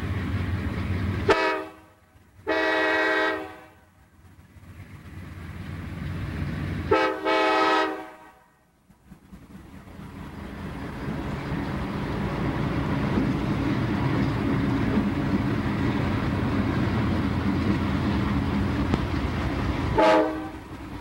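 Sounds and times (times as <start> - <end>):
diesel locomotive rumbling past: 0.0 - 21.0.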